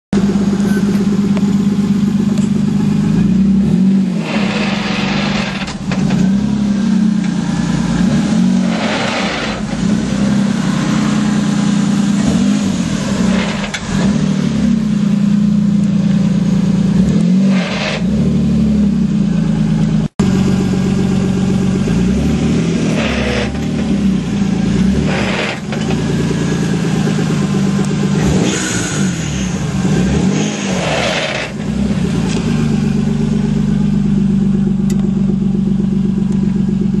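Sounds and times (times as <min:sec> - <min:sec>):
car engine revving: 0:00.2 - 0:37.0.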